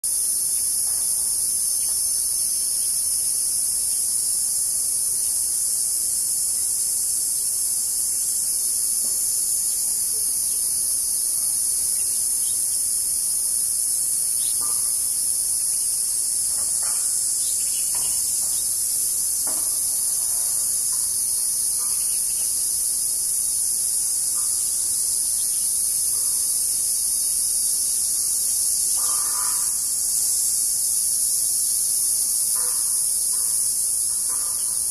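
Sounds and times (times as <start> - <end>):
insects calling: 0.0 - 34.9.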